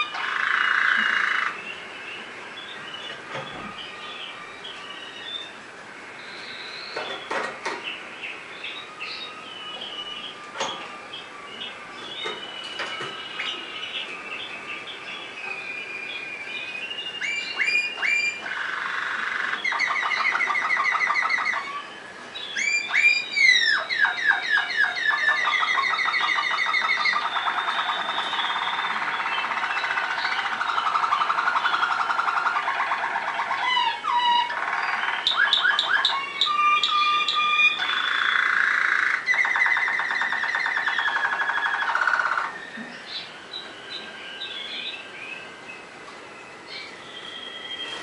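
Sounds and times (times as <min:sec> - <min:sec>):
canary singing trills: 0:00.0 - 0:48.0.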